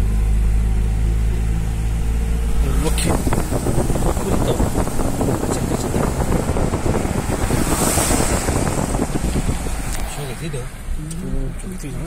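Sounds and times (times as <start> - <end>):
car engine hum: 0.0 - 12.0
wind buffeting microphone: 1.2 - 11.0.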